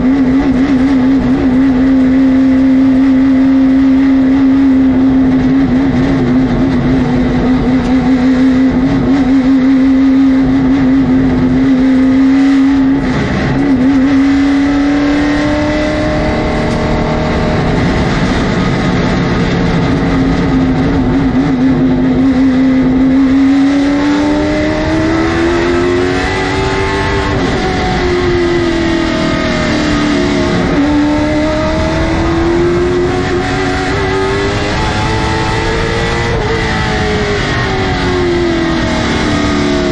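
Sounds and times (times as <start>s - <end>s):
racing car engine at high revs: 0.0s - 39.9s.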